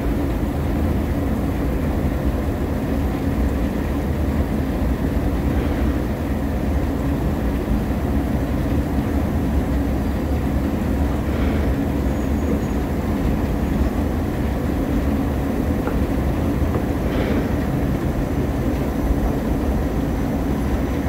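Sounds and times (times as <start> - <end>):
escalator rumbling: 0.0 - 21.0.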